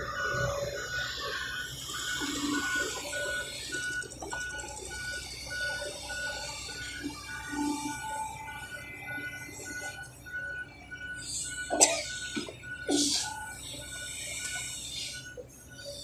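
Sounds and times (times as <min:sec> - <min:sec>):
heavy diesel machinery rumbling: 0:00.0 - 0:16.0
warning alarm beeping: 0:00.0 - 0:16.0.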